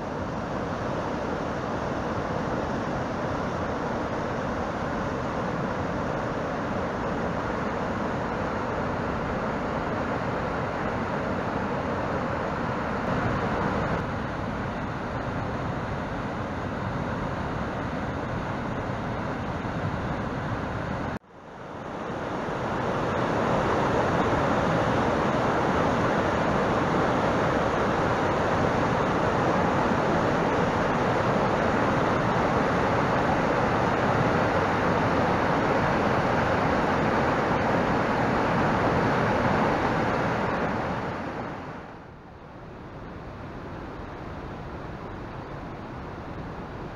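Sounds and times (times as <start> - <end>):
mountain stream rapids roaring: 0.0 - 46.9.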